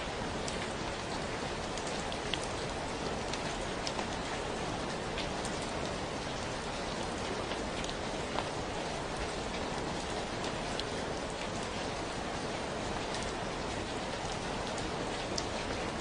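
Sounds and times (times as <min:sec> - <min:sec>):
individual raindrops: 0:00.0 - 0:16.0
steady rain falling: 0:00.0 - 0:16.0.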